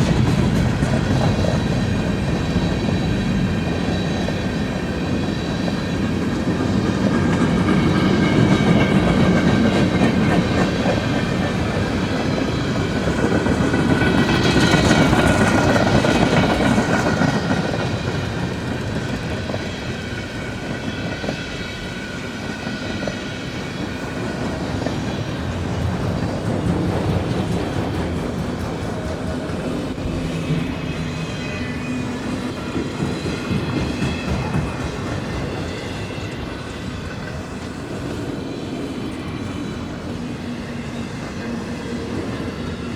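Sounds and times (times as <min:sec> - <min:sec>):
clickety-clack over rail joints: 0:00.0 - 0:42.9
train wheels rumbling on rails: 0:00.0 - 0:42.9.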